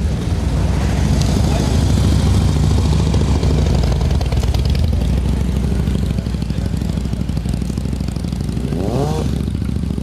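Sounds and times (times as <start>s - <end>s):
motorcycle engine idling: 1.4s - 10.0s.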